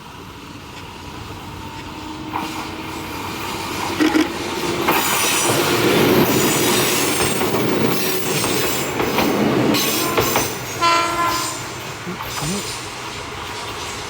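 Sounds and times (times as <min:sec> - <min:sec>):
electric train passing: 0:00.0 - 0:14.0
wheels clacking over rail joints: 0:00.6 - 0:14.0.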